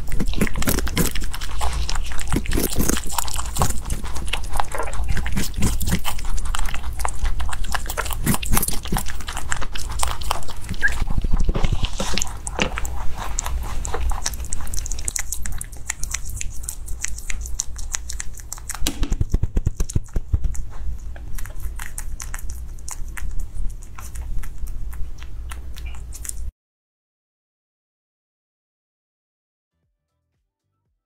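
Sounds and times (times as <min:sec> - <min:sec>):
rabbit chewing crunchy food: 0:00.0 - 0:26.5.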